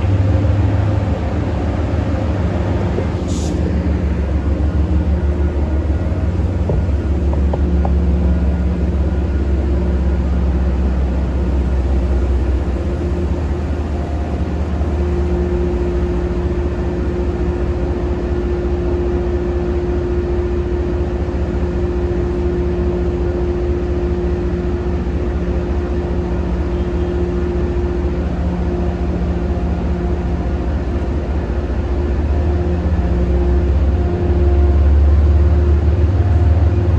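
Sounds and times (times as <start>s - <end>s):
diesel locomotive engine droning: 0.0s - 36.9s.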